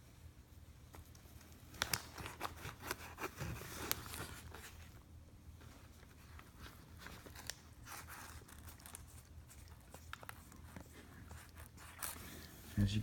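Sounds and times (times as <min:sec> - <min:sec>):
cat rustling and licking: 0:00.0 - 0:12.8
low steady hum: 0:00.0 - 0:13.0.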